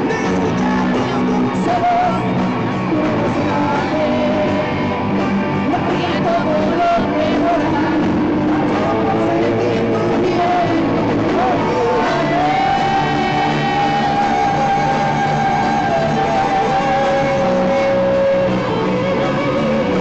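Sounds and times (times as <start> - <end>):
man singing: 0.0 - 5.0, 5.6 - 20.0
live rock band playing: 0.0 - 20.0.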